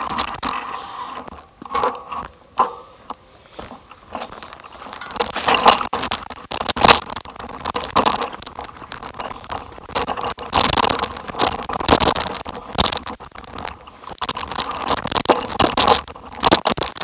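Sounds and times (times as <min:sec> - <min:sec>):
crunching and scraping on rocky track: 0:00.0 - 0:17.0
sharp clicks and rattles: 0:00.0 - 0:17.0.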